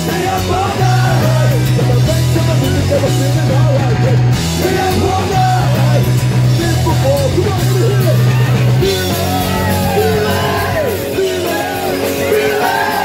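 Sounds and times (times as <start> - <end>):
lead vocalist singing: 0.0 - 13.0
punk rock band playing: 0.0 - 13.0.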